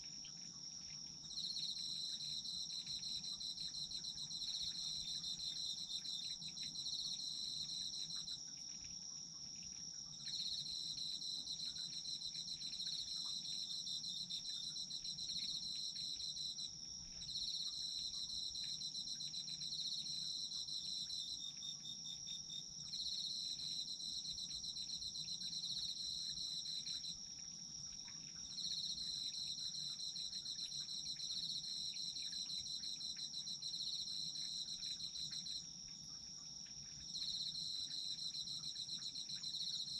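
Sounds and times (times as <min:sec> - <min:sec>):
cricket steady high trill: 0:00.0 - 0:39.9.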